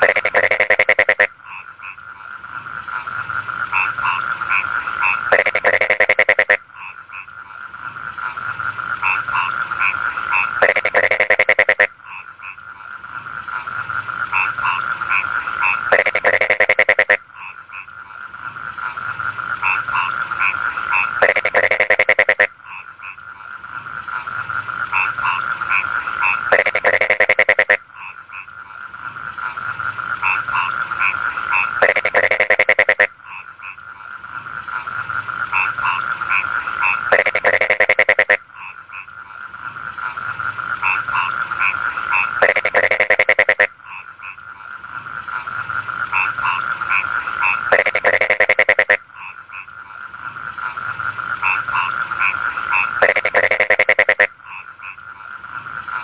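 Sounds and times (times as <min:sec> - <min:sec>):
frogs croaking in chorus: 0:00.0 - 0:56.0.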